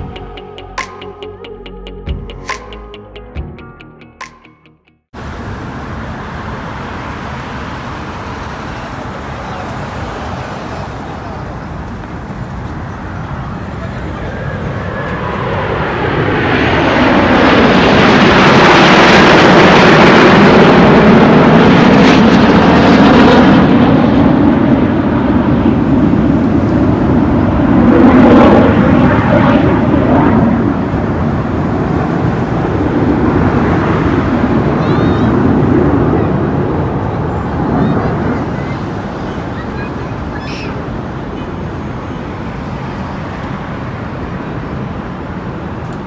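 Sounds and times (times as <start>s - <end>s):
jet aircraft engine roar: 5.2s - 46.0s.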